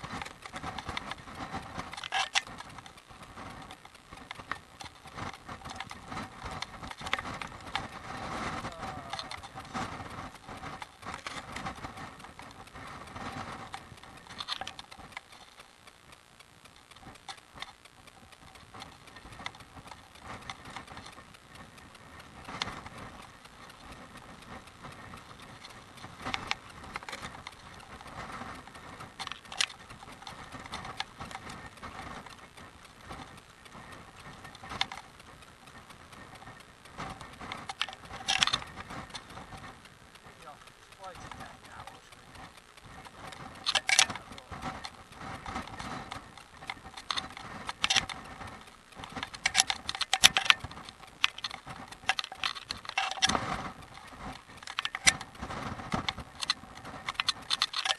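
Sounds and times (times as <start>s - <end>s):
bicycle clattering: 0.0s - 57.9s.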